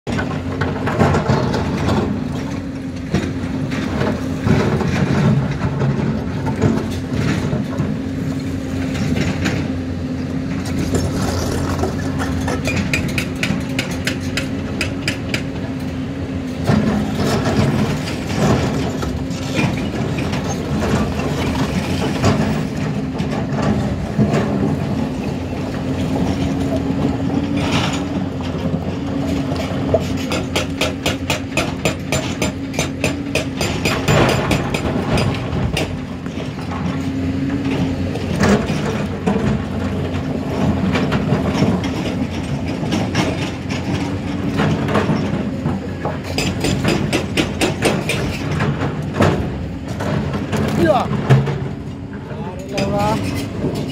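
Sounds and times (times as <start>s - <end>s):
diesel engines running: 0.1s - 53.9s.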